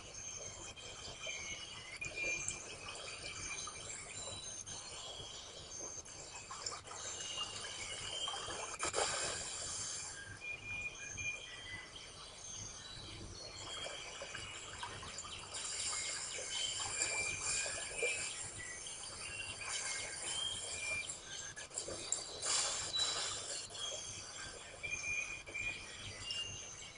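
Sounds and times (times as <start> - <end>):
birds chirping and whistling: 0.0 - 26.9
insects: 0.0 - 26.9.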